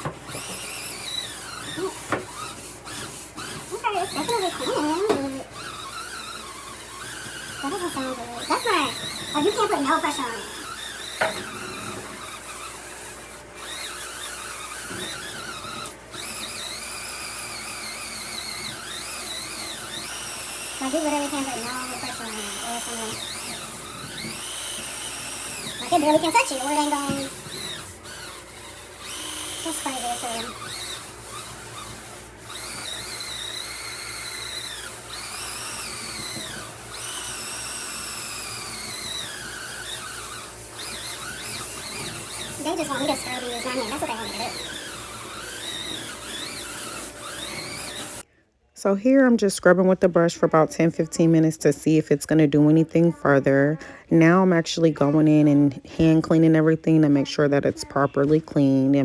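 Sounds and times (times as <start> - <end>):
spin scrubber motor whining: 0.0 - 59.0.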